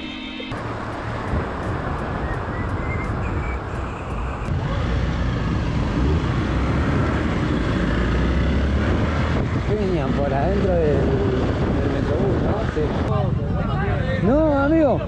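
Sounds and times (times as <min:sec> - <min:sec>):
motorcycle engine: 0:00.0 - 0:12.9.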